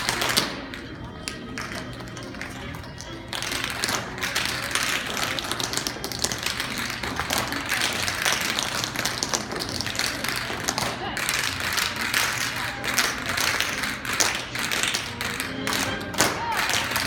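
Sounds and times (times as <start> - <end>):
tap shoes clicking on stage: 0.0 - 17.0.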